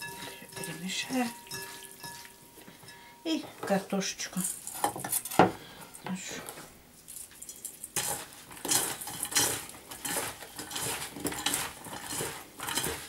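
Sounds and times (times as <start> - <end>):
potato slices rustling in metal bowl: 0.0 - 2.4, 3.3 - 5.4, 6.1 - 13.0.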